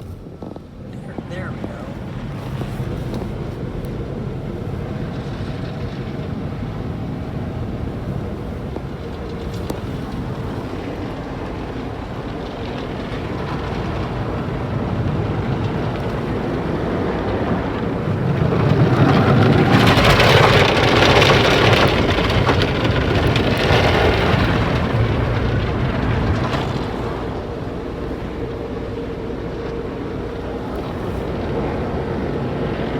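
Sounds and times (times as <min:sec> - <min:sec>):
low machinery rumble: 0:00.0 - 0:32.9.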